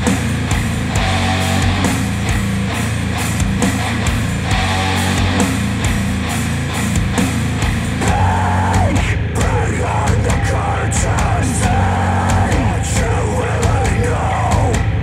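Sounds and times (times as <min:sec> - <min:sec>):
rock music through speakers: 0:00.0 - 0:15.0.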